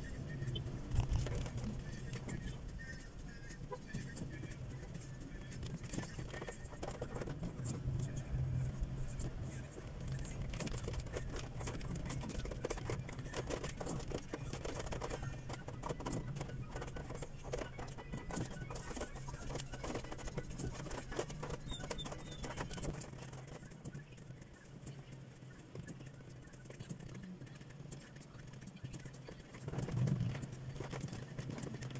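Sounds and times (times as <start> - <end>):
low hum of car: 0.0 - 31.9
rain pattering on car roof: 0.0 - 31.9.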